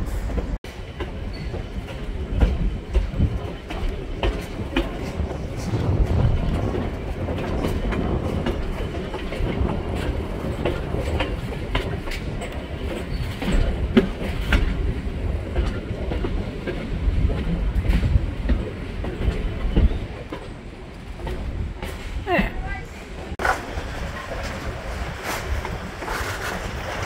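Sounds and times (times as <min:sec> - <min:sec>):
train cars rumbling on track: 0:00.0 - 0:27.0
wheels clacking over rails: 0:00.0 - 0:27.0.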